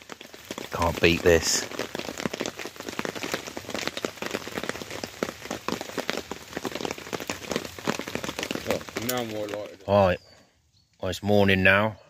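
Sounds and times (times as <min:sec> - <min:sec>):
heavy rain on a tarp: 0:00.0 - 0:10.2.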